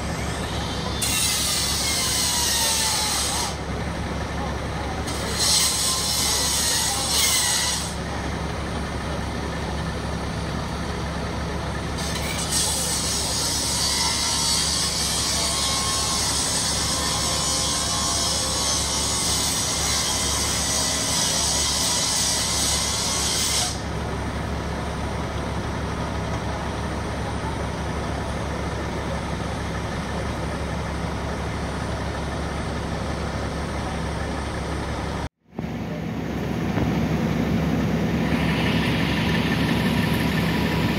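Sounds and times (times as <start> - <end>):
fire engine idling: 0.0 - 40.9.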